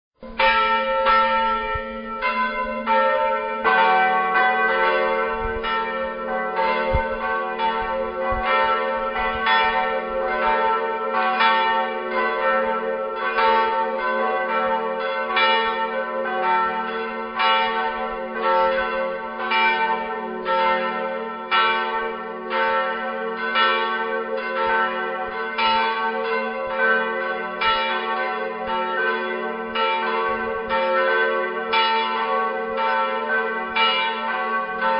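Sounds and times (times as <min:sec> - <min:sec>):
church bells ringing: 0:00.2 - 0:34.9.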